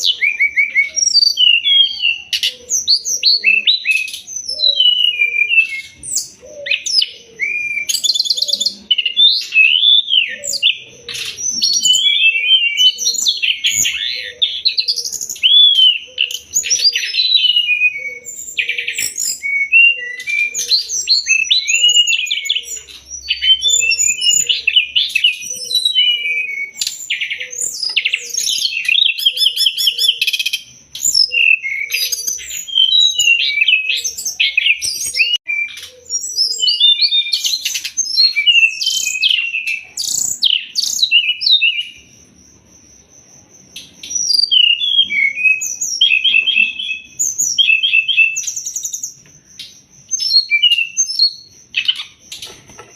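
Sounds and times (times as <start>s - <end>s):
bird singing: 0.0s - 52.9s.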